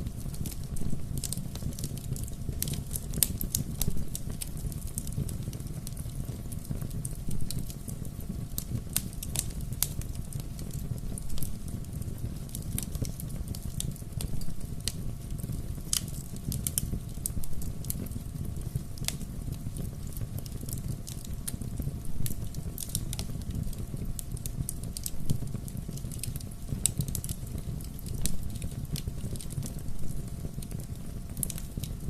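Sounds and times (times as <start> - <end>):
wood fire burning and crackling: 0.0 - 32.0.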